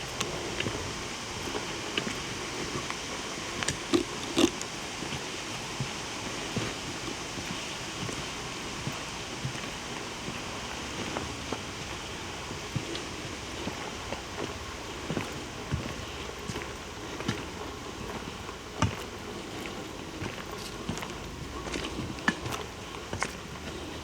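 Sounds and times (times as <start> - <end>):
footsteps on a trail: 0.0 - 24.0.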